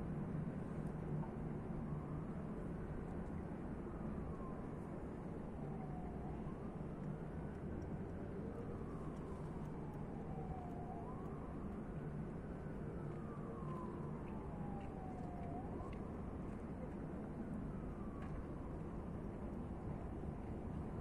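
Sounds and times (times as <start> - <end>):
low rumble of traffic: 0.0 - 21.0
faint siren wailing: 0.1 - 21.0.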